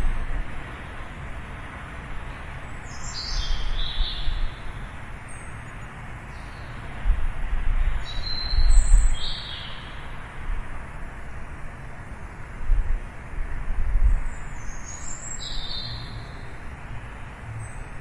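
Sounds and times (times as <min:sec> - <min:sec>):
distant traffic hiss: 0:00.0 - 0:18.0.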